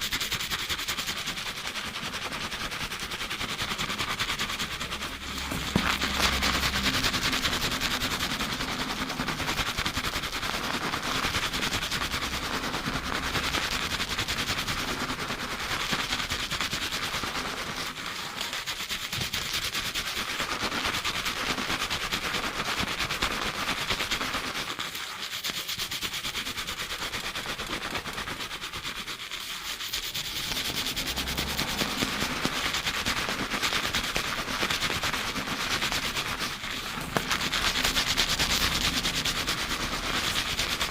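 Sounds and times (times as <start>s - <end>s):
hands scrubbing lathered hair: 0.0s - 40.9s.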